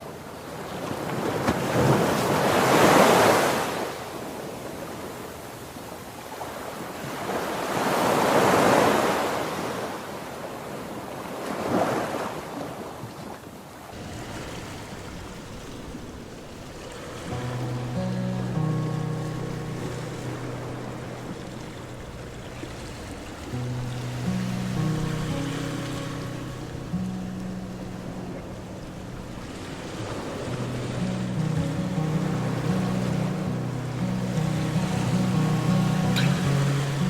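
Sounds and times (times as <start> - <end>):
low wash of sea: 0.0 - 37.0
ocean waves breaking on shore: 0.0 - 37.0.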